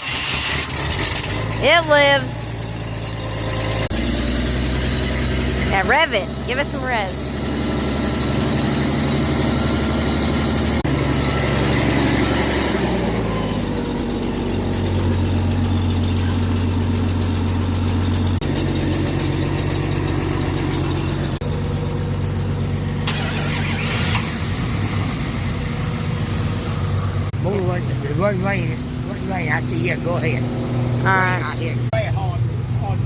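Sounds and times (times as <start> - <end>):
truck engine revving and idling: 0.0 - 33.0.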